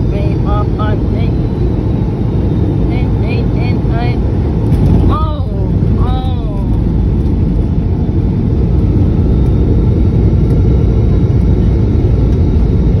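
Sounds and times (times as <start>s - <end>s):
airplane landing roll rumble: 0.0s - 13.0s.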